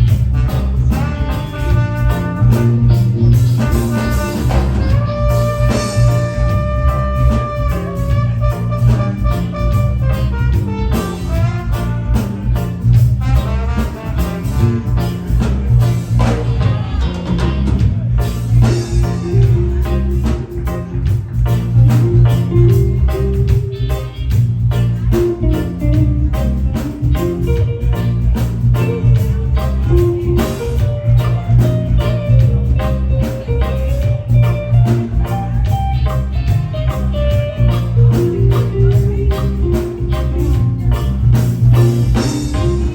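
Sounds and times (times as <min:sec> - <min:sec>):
live reggae band playing: 0:00.0 - 0:42.9.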